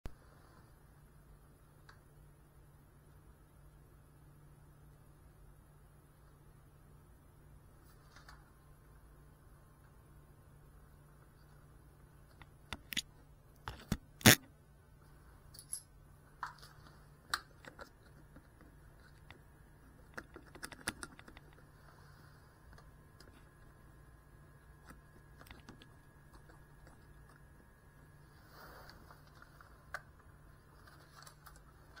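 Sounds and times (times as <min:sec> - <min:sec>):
faint steady hum: 0:00.1 - 0:32.0.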